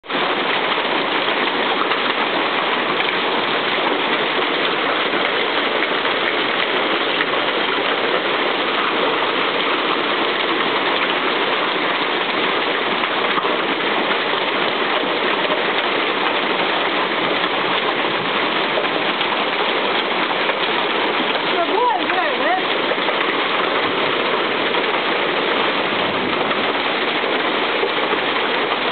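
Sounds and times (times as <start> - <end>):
hailstones striking the ground: 0.1 - 28.9.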